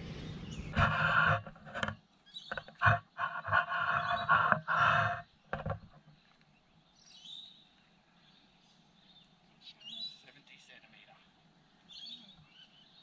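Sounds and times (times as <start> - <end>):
faint bird chirp: 0.1 - 1.5, 2.1 - 10.5, 11.1 - 13.0.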